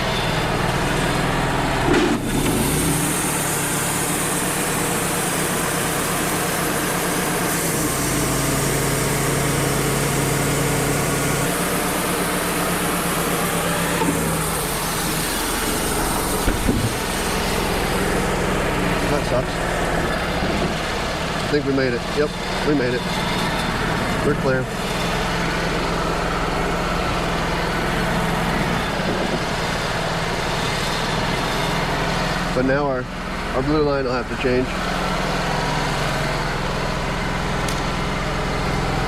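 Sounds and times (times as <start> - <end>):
sawmill engine under load: 0.0 - 39.0.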